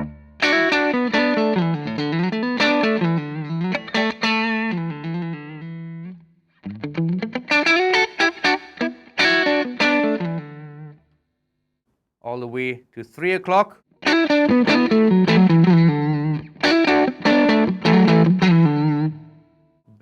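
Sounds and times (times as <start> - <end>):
lightly distorted electric guitar: 0.0 - 11.1, 14.0 - 20.0.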